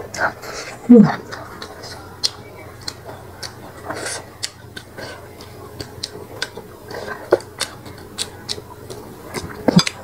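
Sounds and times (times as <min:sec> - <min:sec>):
wet chewing clicks and smacks: 0:01.2 - 0:10.0.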